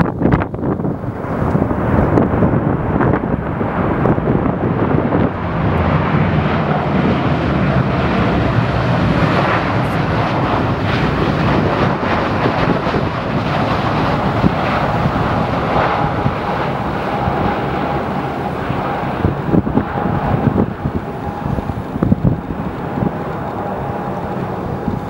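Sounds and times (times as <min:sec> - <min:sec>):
jet engines running: 0:00.0 - 0:25.0
steady whine: 0:00.0 - 0:25.0
wind buffeting microphone: 0:00.0 - 0:25.0.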